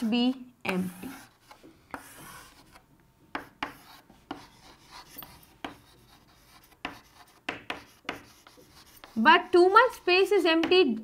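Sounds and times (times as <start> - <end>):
chalk scratching on chalkboard: 0.0 - 10.7.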